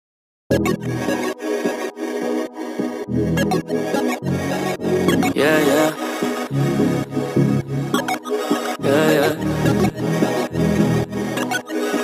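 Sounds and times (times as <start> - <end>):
instrumental music with steady beat: 0.5 - 12.0.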